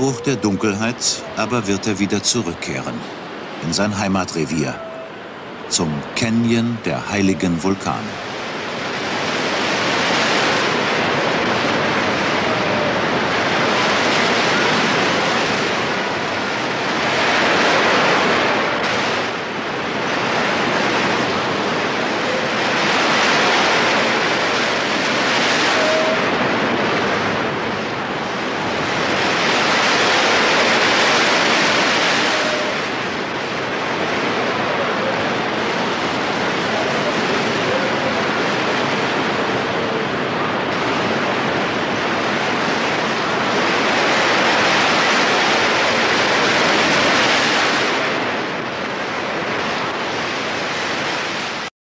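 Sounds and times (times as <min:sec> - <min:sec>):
ocean surf crashing on rocks: 0:00.0 - 0:51.7.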